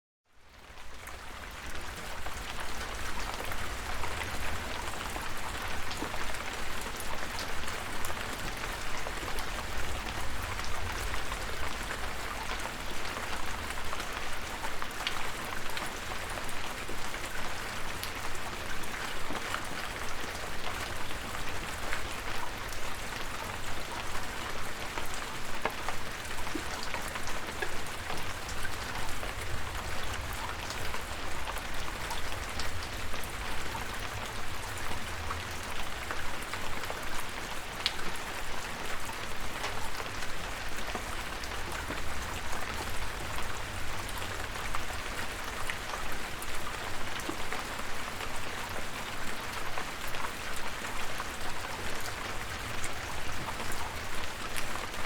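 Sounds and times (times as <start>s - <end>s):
steady rain falling: 0.3s - 55.0s
ticks of raindrops: 0.6s - 55.0s.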